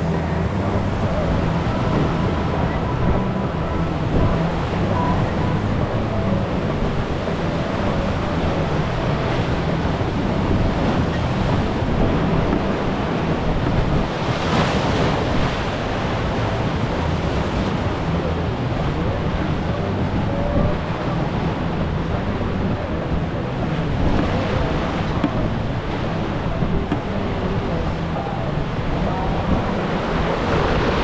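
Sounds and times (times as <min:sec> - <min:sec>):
river rapid rushing: 0:00.0 - 0:31.0
wind buffeting microphone: 0:00.0 - 0:31.0.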